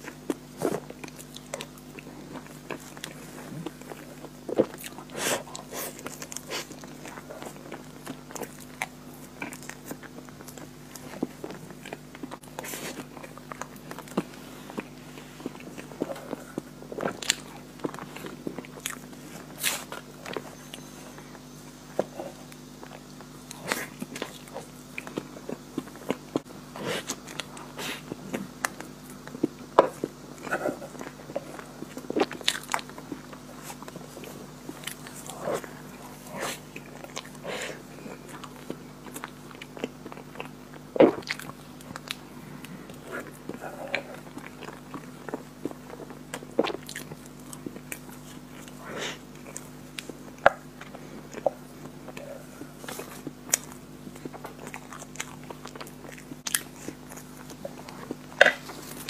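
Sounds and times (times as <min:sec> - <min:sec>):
wet chewing mouth clicks: 0:00.0 - 0:59.0.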